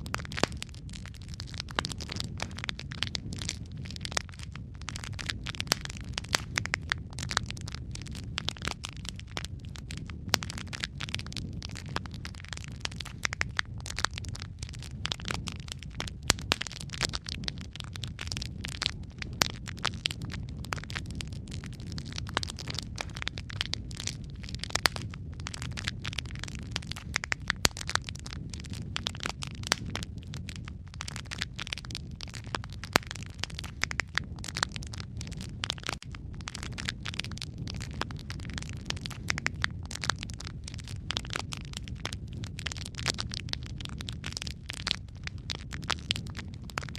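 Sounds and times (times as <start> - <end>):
low rumble of flames: 0.0 - 46.9
wood fire crackling and popping: 0.0 - 46.9.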